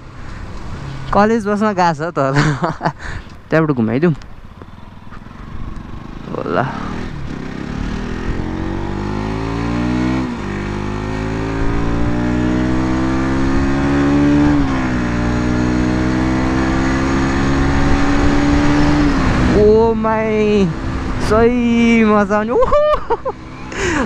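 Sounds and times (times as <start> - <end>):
motorcycle engine accelerating: 4.3 - 24.0.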